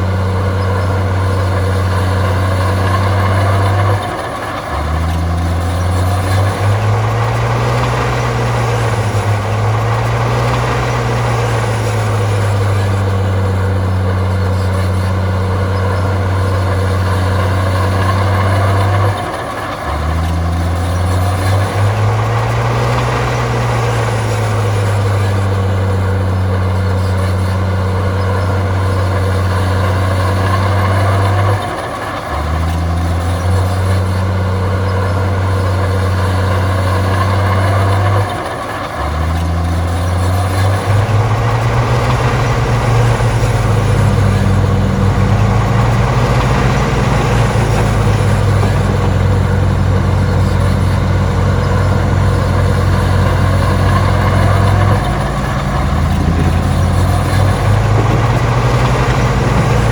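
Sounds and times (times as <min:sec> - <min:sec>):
bulldozer diesel engine under load: 0:00.0 - 0:59.9
rattling noise: 0:00.0 - 0:59.9.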